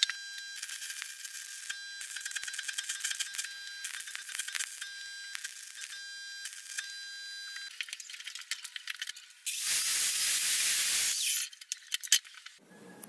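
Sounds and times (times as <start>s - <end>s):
arc welding crackling: 0.0s - 6.9s, 7.6s - 11.7s.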